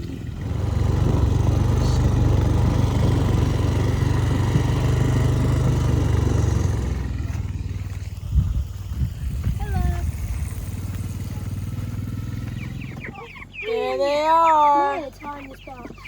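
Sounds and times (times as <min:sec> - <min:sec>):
small vehicle engine running: 0:00.0 - 0:16.0.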